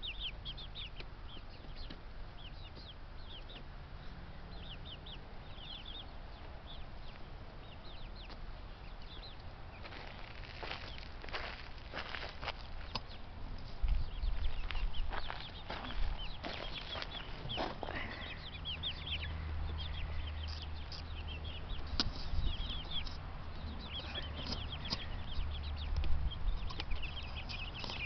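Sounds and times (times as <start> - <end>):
steady low rumble: 0.0 - 27.8
birds chirping: 0.0 - 28.0.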